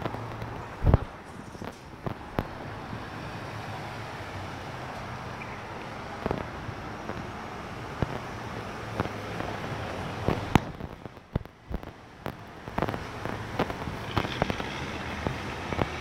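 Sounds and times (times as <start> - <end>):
low hum of traffic: 0.0 - 16.0.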